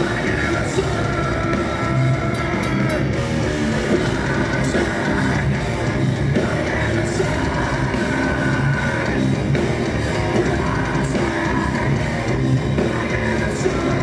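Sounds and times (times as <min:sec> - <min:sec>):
distorted electric guitars: 0:00.0 - 0:14.0
drums: 0:00.0 - 0:14.0.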